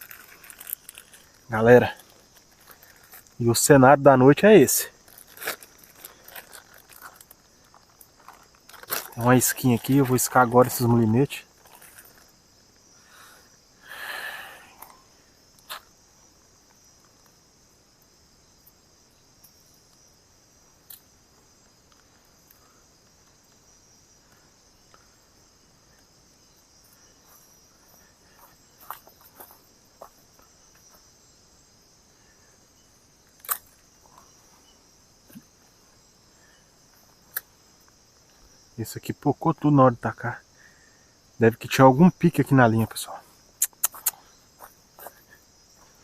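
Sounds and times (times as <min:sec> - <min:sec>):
night insects chirring: 0:00.0 - 0:46.0.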